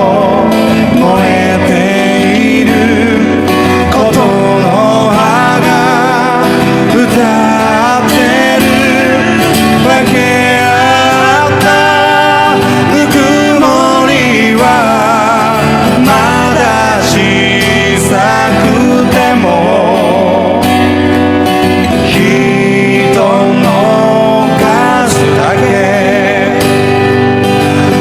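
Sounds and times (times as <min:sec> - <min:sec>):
guitar accompaniment: 0:00.0 - 0:28.0
person singing slow melody: 0:00.0 - 0:28.0.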